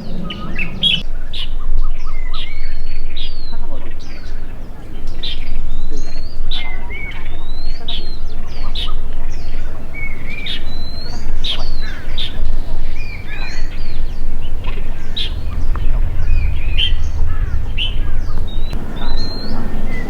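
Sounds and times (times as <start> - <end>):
songbirds chirping: 0.0 - 20.0
steady low rumble: 0.0 - 20.0.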